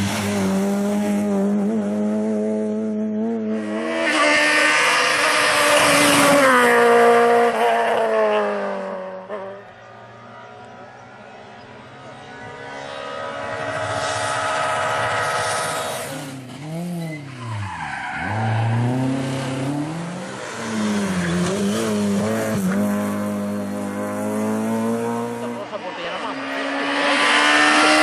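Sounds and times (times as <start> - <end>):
rally car engine revving: 0.0 - 9.8, 11.2 - 28.0.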